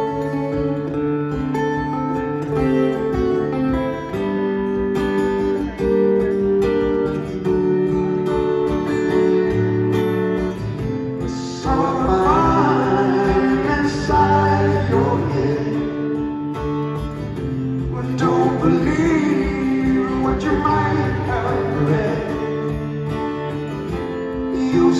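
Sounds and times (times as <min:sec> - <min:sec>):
acoustic guitars playing: 0:00.0 - 0:24.9.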